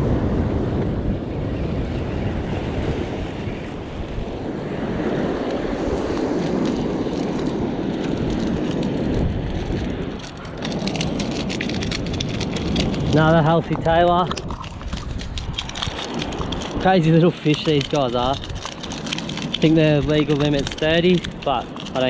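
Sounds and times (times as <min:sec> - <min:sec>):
wind buffeting microphone: 0:00.0 - 0:22.0
sea surf washing against rock: 0:02.3 - 0:22.0.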